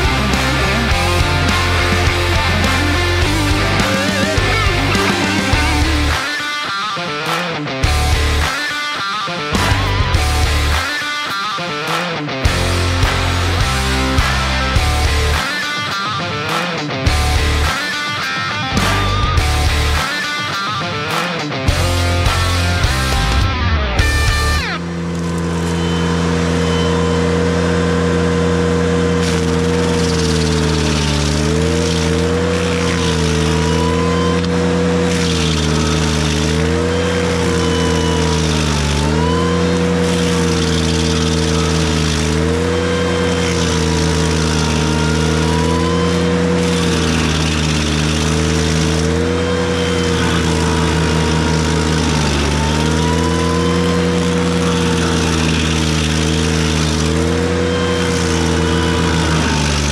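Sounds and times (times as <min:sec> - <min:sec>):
stump grinder cutting hiss: 0:00.0 - 0:59.9
tractor engine running hard: 0:00.0 - 0:59.9.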